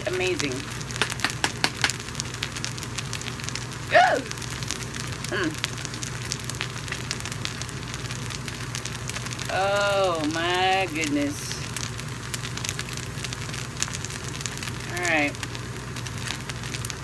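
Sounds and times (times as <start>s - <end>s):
noodles sizzling in skillet: 0.0s - 17.0s.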